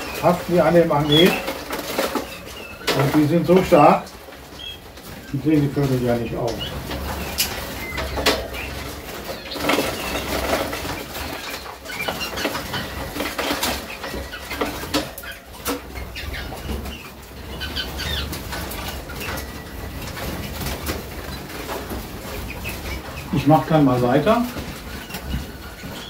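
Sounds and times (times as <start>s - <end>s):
birds fluttering wings: 0.0s - 26.0s.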